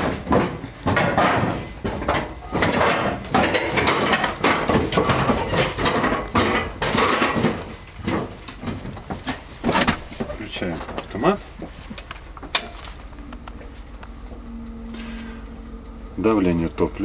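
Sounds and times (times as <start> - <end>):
footsteps on metal floor: 0.0 - 15.6
metal clanks and knocks: 0.0 - 15.9.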